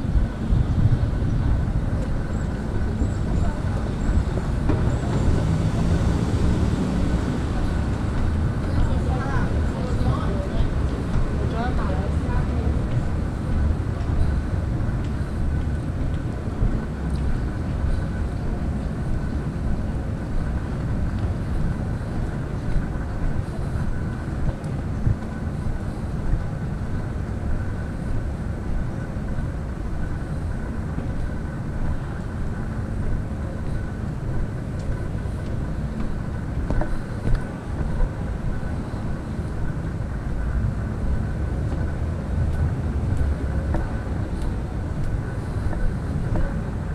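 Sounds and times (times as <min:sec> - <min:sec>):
city street rumble: 0:00.0 - 0:46.9.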